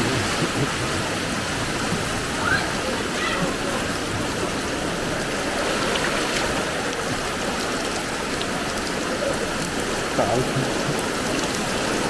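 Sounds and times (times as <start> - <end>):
floodwater rushing: 0.0 - 12.0
rain falling: 0.0 - 12.0.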